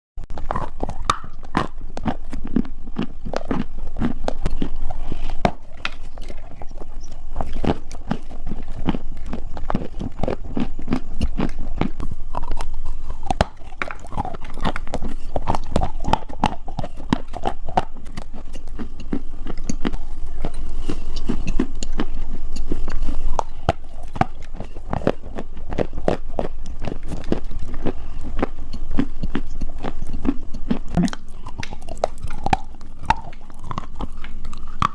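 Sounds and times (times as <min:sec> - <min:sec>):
crunchy chewing: 0:00.3 - 0:34.9.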